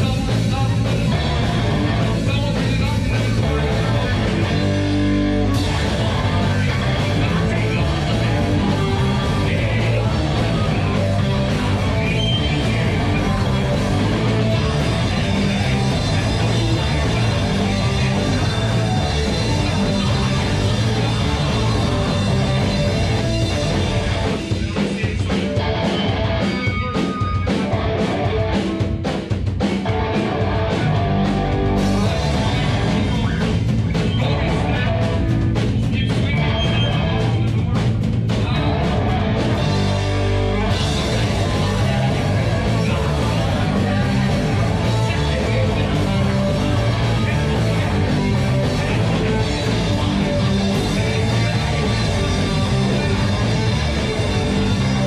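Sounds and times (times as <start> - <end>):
bass guitar: 0.0 - 55.0
distorted electric guitar: 0.0 - 55.0
drum kit: 0.0 - 55.0.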